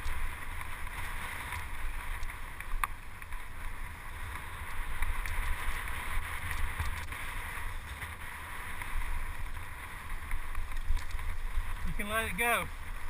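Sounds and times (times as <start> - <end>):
faint ticks: 0.0 - 3.6, 4.2 - 11.8
bike rolling on dirt trail: 0.0 - 13.0
wind buffeting microphone: 0.0 - 13.0.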